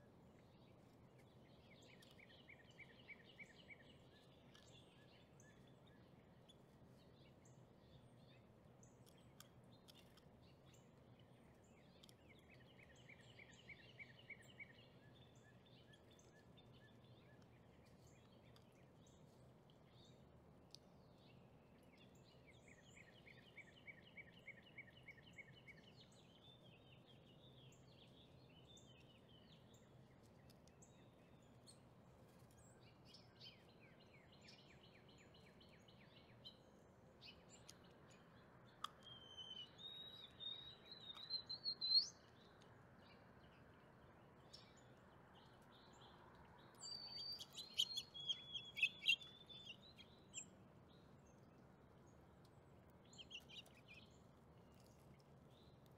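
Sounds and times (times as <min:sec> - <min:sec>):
birdsong trills and chirps: 0:00.4 - 0:31.9, 0:32.5 - 0:55.9.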